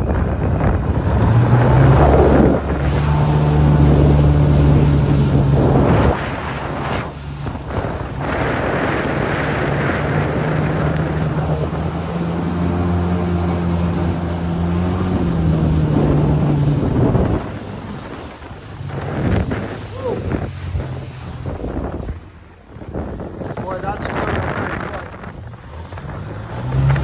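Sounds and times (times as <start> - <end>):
jet ski engine running: 0.0 - 27.0
wind buffeting microphone: 0.0 - 27.0.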